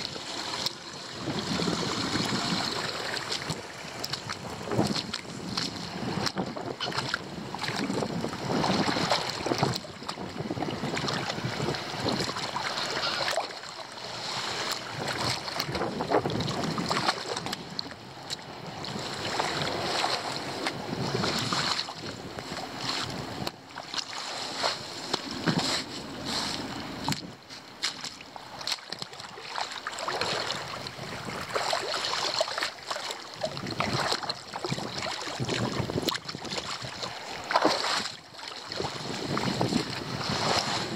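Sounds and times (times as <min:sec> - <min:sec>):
floodwater splashing and sloshing: 0:00.0 - 0:40.9.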